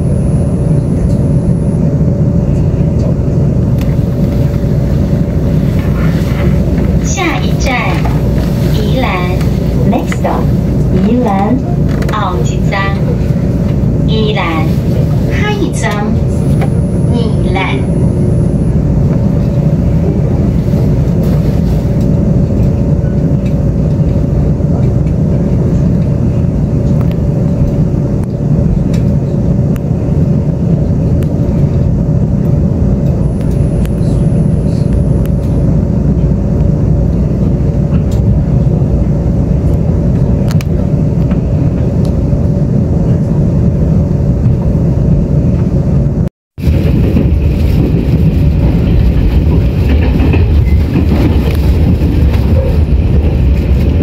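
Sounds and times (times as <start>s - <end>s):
faint hum: 0.0s - 54.0s
train rumbling from inside: 0.0s - 54.0s.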